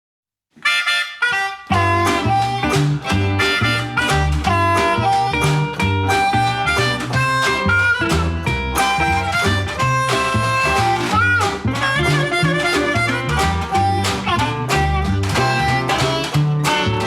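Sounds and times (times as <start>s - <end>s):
harmonica melody: 0.6s - 17.0s
resonator guitar: 0.7s - 17.0s
double bass line: 1.7s - 17.0s.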